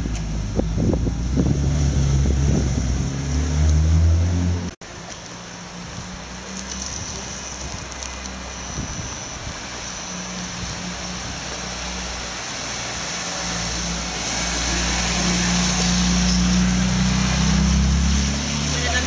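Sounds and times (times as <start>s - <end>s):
tyres on wet tarmac: 0.0s - 19.0s.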